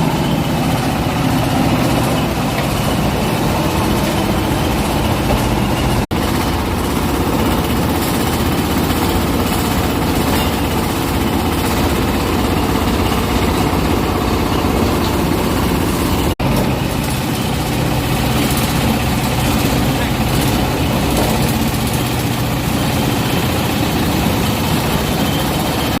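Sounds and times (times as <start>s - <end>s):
machine running: 0.0s - 26.0s.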